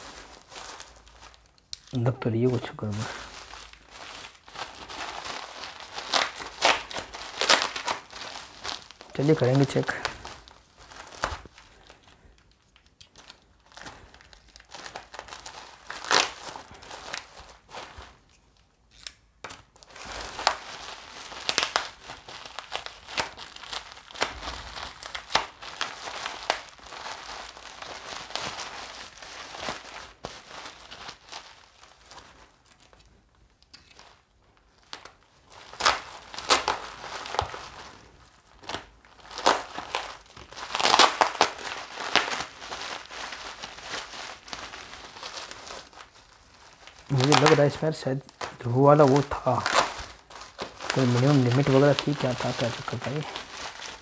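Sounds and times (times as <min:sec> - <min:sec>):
bubble wrap crinkling and crackling: 0:00.0 - 0:54.0.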